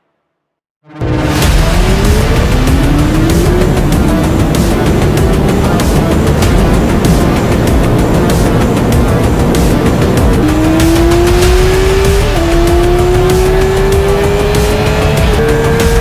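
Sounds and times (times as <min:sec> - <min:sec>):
heavy music: 0:00.8 - 0:16.0
motorcycle engine revving: 0:00.9 - 0:16.0.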